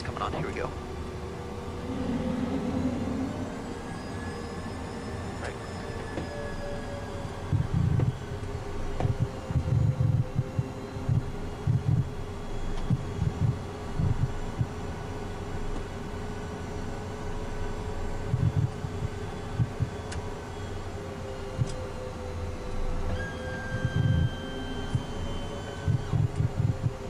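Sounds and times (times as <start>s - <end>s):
jet engines idling whine: 0.0s - 27.0s.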